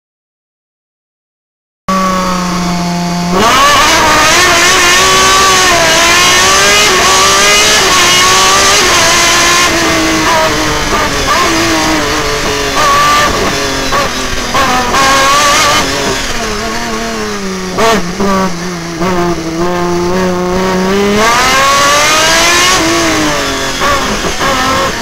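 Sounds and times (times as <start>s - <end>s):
racing car engine accelerating: 1.9s - 25.0s.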